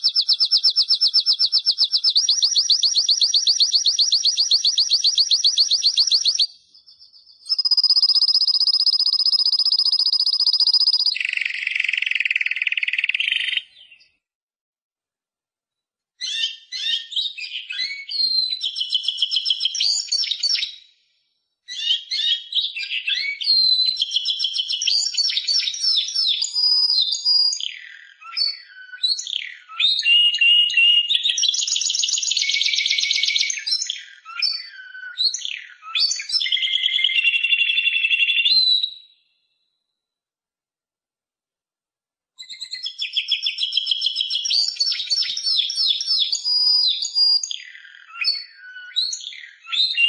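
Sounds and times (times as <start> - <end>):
canary singing trills: 0.0 - 14.2, 16.2 - 20.9, 21.7 - 39.2, 42.4 - 50.0.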